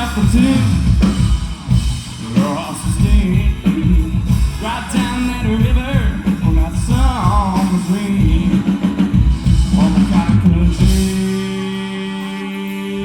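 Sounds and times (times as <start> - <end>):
live rock band playing: 0.0 - 13.0
pitch-sliding melody line: 0.0 - 13.0.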